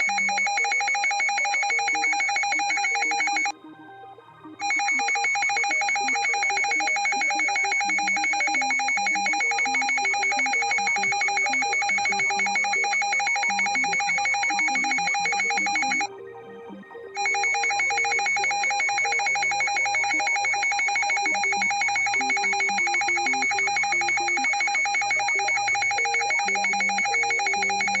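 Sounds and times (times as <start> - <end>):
trilling electronic alarm: 0.0 - 28.0.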